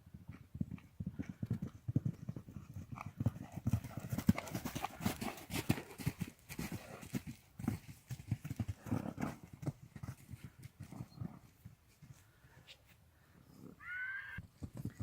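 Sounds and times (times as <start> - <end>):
horse hooves thudding: 0.0 - 12.3, 14.4 - 15.0.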